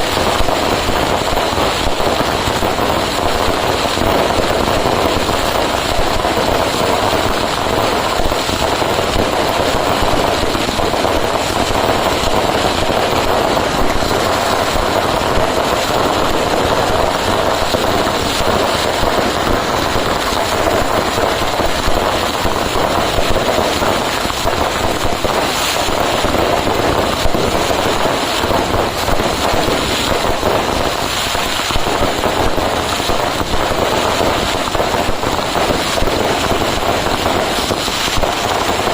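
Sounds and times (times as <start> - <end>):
fireworks and firecrackers barrage: 0.0 - 38.9.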